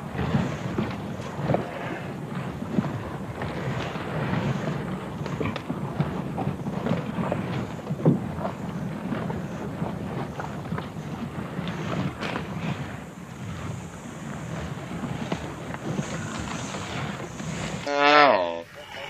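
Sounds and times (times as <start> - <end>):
scrapes and knocks of animals feeding: 0.0 - 17.9
wind buffeting microphone: 0.0 - 19.0.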